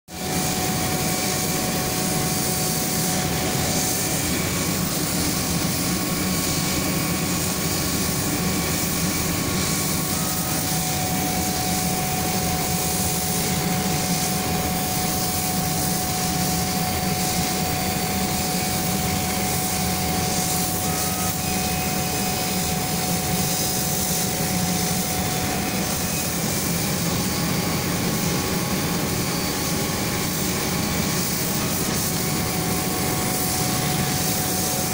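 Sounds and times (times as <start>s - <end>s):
laser cutting machine whirring: 0.1s - 34.9s
thin steady whine: 0.1s - 34.9s.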